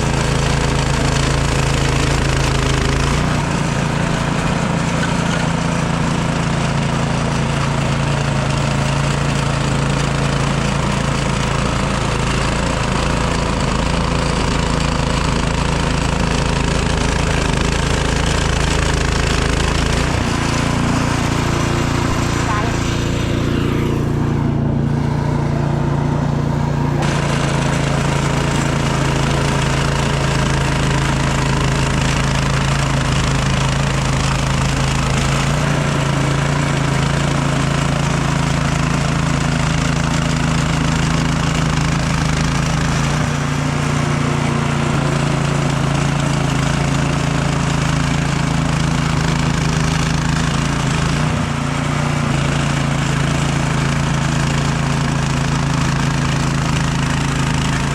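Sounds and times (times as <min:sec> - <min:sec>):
snowblower engine running: 0:00.0 - 0:57.9.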